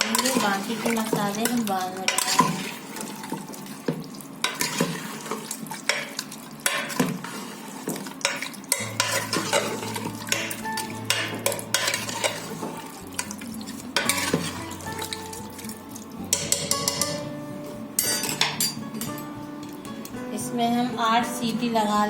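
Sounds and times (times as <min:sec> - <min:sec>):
spoon scraping and clinking pot: 0:00.0 - 0:03.5, 0:04.4 - 0:17.3, 0:18.0 - 0:19.9.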